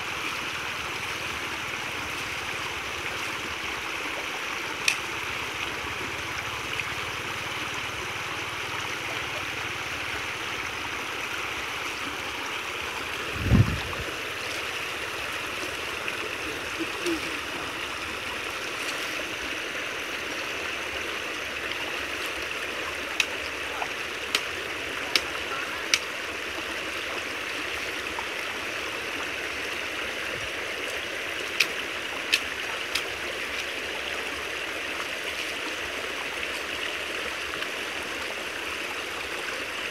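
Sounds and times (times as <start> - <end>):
water rushing through gap: 0.0 - 39.9.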